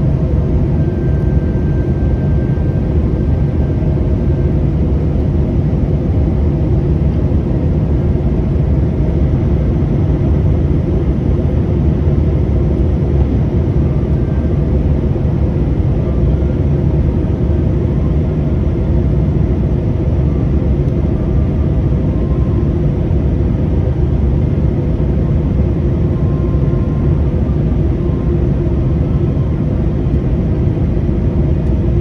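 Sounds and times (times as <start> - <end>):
airliner cabin engine drone: 0.0 - 32.0.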